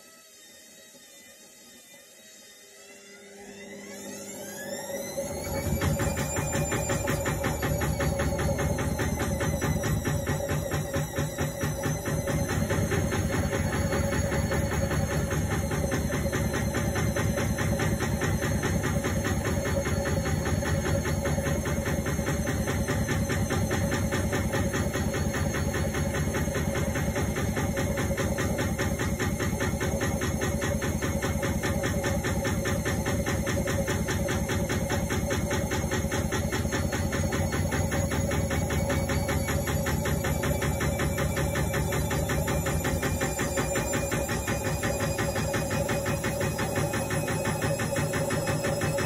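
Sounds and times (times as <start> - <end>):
washing machine hum: 3.8 - 49.0
washing machine drum knocking: 5.2 - 49.0.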